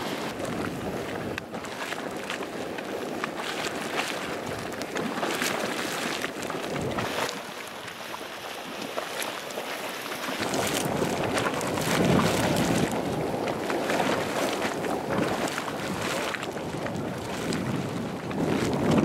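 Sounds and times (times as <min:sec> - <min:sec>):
geyser water surging and gurgling: 0:00.0 - 0:19.0.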